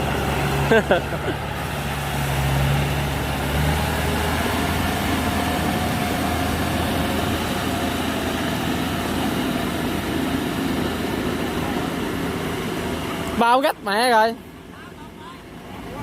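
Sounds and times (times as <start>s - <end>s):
combine harvester diesel engine: 0.0s - 16.0s.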